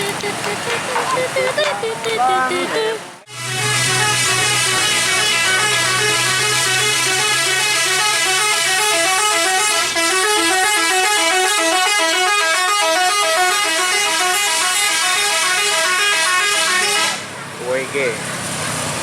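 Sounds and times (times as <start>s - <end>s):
bus melody horn: 0.0s - 17.4s.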